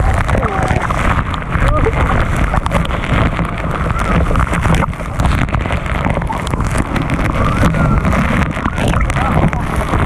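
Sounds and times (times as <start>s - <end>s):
falling water rushing and splashing: 0.0s - 10.0s.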